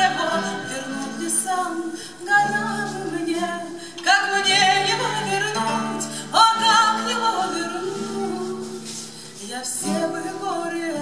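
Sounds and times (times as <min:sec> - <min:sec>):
acoustic guitar: 0:00.0 - 0:11.0
woman singing: 0:00.0 - 0:11.0.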